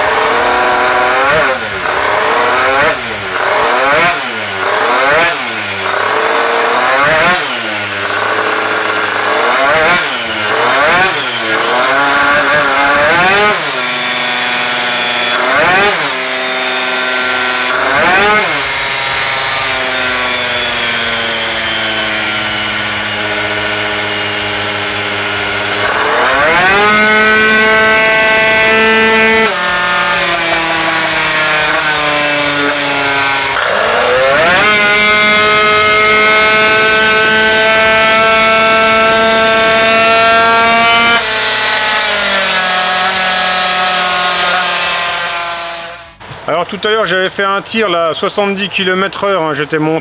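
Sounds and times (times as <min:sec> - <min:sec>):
scooter engine revving: 0:00.0 - 0:46.6.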